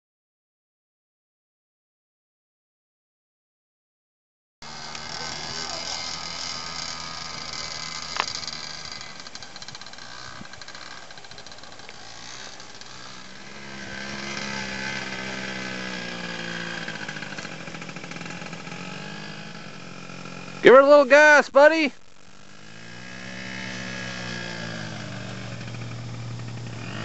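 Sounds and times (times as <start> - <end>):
quad engine running: 4.6 - 27.0.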